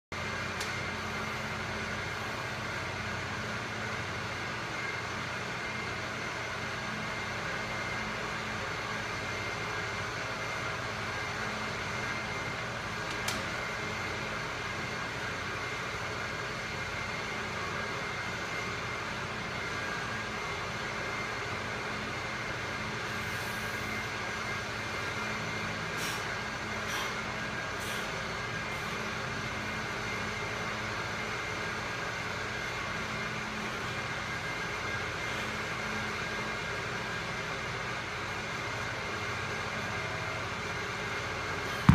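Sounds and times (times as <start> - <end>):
ventilation hum and hiss: 0.2 - 41.9.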